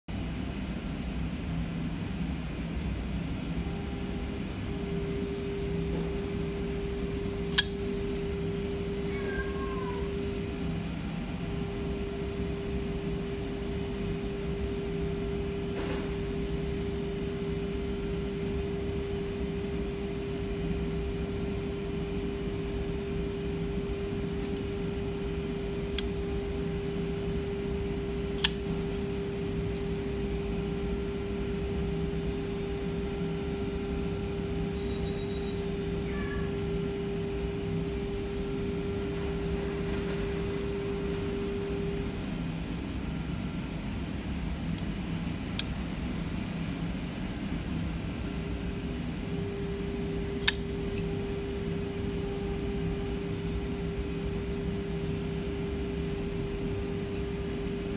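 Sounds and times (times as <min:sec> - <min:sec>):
steady hum: 0:00.1 - 0:57.9.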